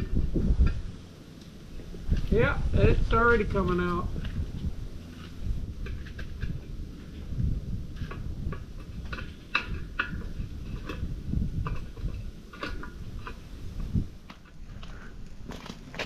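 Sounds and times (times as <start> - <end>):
low fire rumble: 0.0 - 16.0
wood fire crackling in stove: 0.0 - 16.0.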